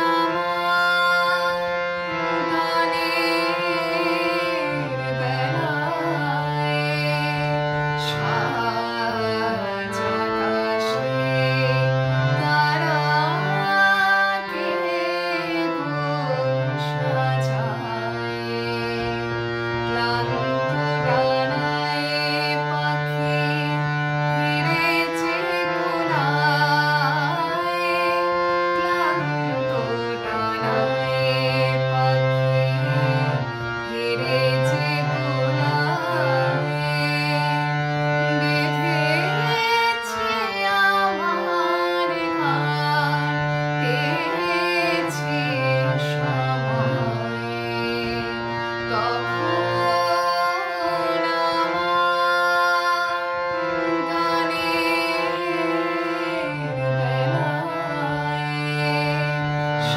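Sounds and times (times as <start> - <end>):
harmonium chords: 0.0 - 59.9
woman singing: 0.0 - 59.9.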